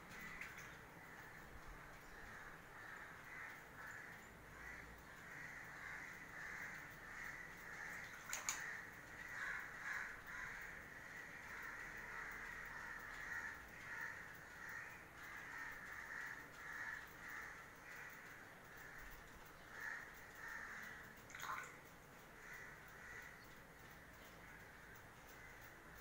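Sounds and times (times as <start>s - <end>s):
faint bird calls: 0.0s - 26.0s.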